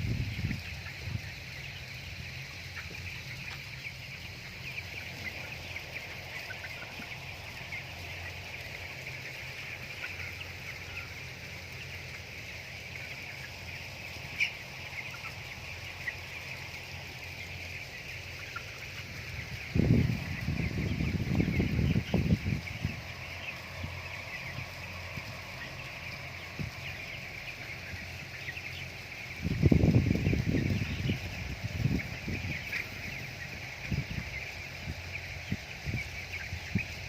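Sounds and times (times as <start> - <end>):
chicks peeping and chirping: 0.0 - 37.0.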